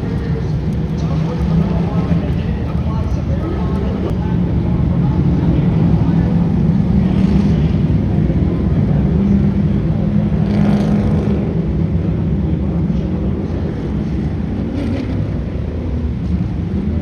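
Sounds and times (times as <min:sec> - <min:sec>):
vehicle engines droning: 0:00.0 - 0:17.0.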